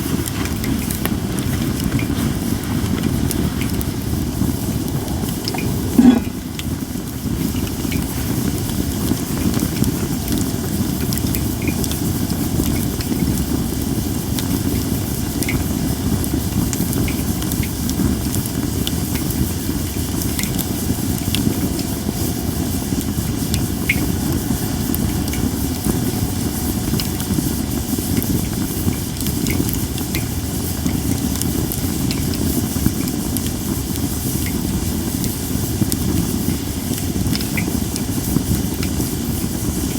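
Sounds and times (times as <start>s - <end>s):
campfire hissing and crackling: 0.0s - 39.9s.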